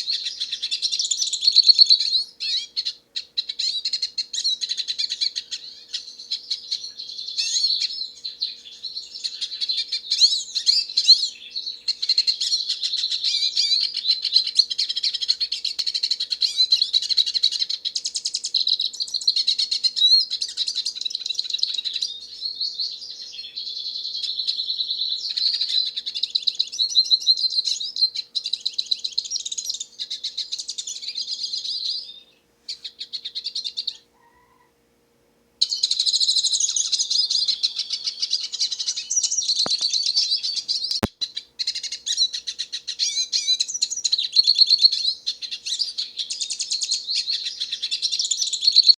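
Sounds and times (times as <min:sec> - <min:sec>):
bird twittering song: 0:00.0 - 0:34.7, 0:35.6 - 0:49.0.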